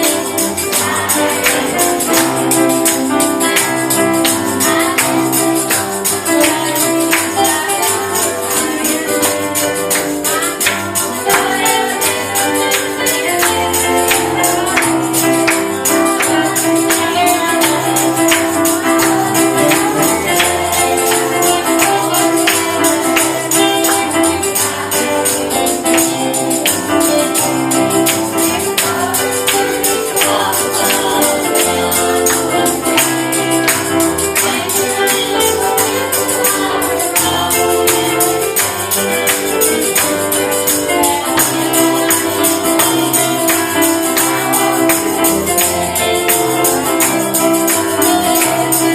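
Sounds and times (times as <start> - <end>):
fast tambourine rhythm: 0.0 - 48.9
voices singing gospel: 0.0 - 48.9.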